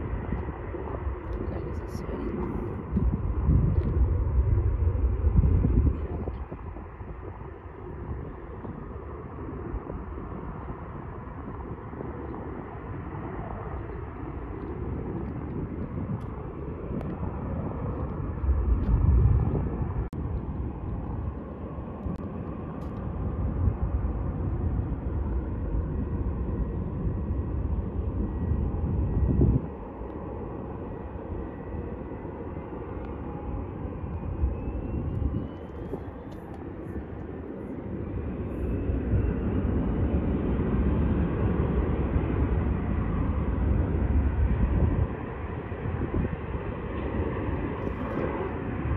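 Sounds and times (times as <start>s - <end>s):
distant jet airliners rumbling: 0.0s - 48.9s
faint rising jet whine: 0.0s - 48.9s.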